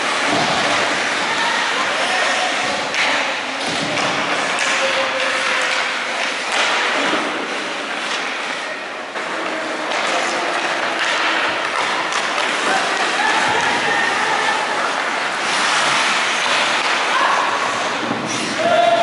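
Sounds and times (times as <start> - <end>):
hockey sticks and puck knocking: 0.0 - 18.8
skates scraping on ice: 0.0 - 19.0.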